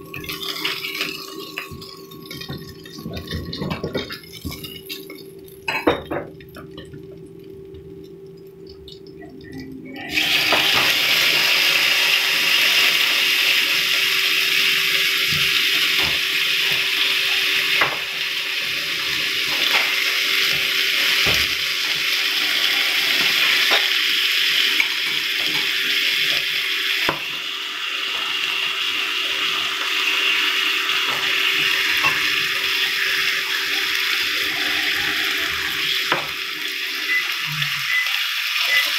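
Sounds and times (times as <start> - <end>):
meat sizzling in hot oil: 0.0 - 8.0, 10.0 - 38.9.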